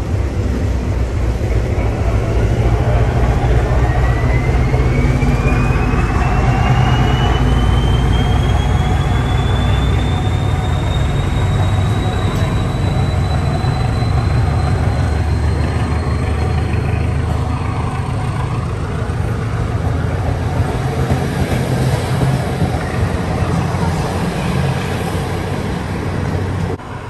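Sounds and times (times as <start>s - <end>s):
thin locomotive whine: 0.0s - 27.0s
train rumbling along track: 0.0s - 27.0s.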